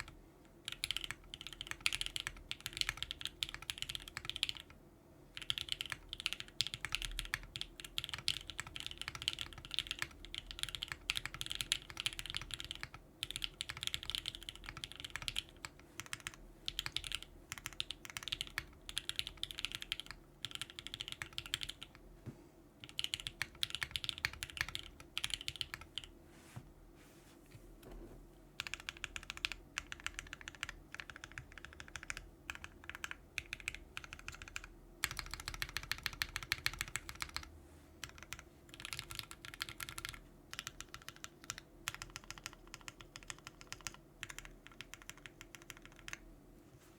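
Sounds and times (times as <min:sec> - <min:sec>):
mechanical keyboard typing: 0:00.0 - 0:04.8, 0:05.4 - 0:22.0, 0:22.8 - 0:26.1, 0:28.6 - 0:46.3.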